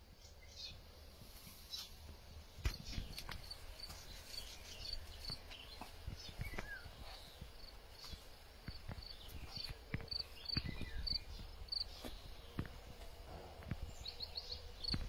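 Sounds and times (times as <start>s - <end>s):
bird calls: 2.7s - 15.0s.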